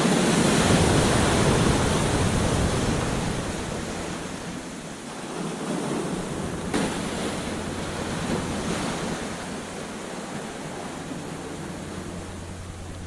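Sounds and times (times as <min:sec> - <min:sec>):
ocean wave breaking: 0:00.0 - 0:13.0
wave wash hissing: 0:00.0 - 0:13.0.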